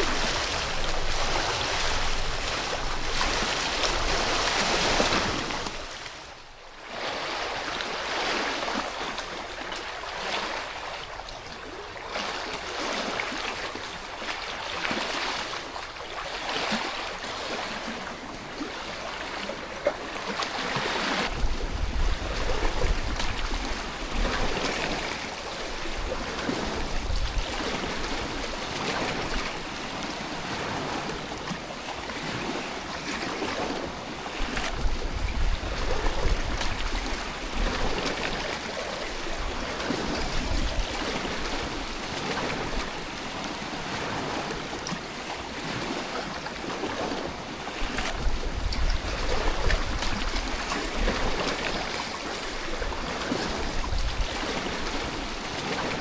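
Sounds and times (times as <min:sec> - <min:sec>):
wind rumbling on microphone: 0:00.0 - 0:06.6, 0:16.8 - 0:56.0
rushing river water: 0:00.0 - 0:56.0.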